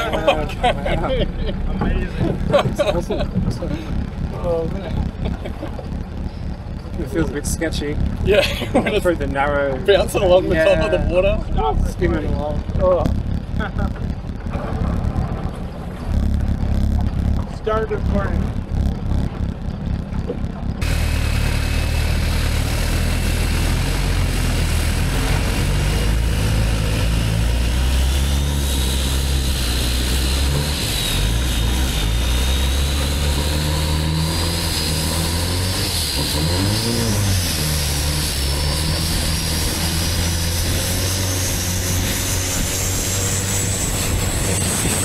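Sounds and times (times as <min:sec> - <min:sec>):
boat diesel engine running hard: 0:00.0 - 0:45.0
turbo whine rising in pitch: 0:00.0 - 0:45.0.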